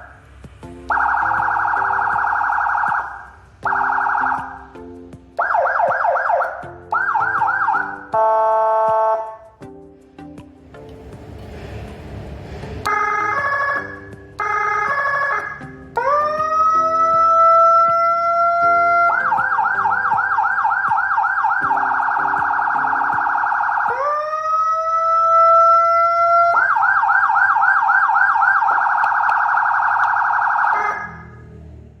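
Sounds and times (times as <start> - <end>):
siren wailing and yelping: 0.9 - 4.6, 5.4 - 9.4, 12.9 - 31.5.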